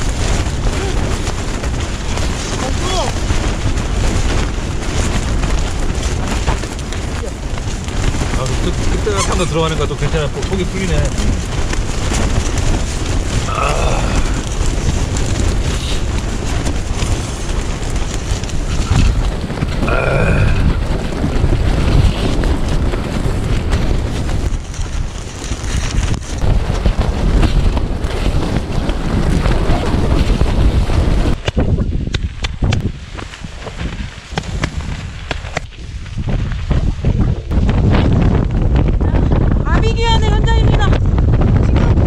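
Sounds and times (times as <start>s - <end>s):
strong wind buffeting microphone: 0.0s - 42.0s.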